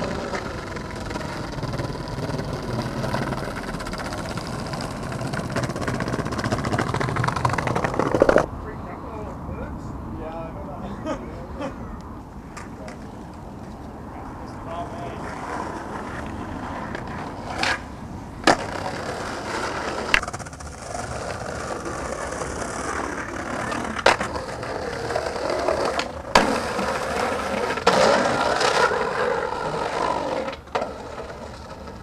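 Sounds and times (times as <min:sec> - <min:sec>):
skateboard clacking on ground: 0:00.0 - 0:08.5, 0:12.5 - 0:13.9, 0:14.8 - 0:32.0
skateboard wheels rolling on paving: 0:00.0 - 0:08.5, 0:11.0 - 0:32.0.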